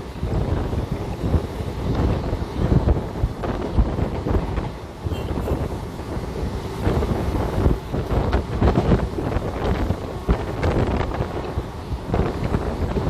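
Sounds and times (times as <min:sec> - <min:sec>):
train carriage rumble: 0:00.0 - 0:13.0
wind buffeting microphone: 0:00.0 - 0:13.0.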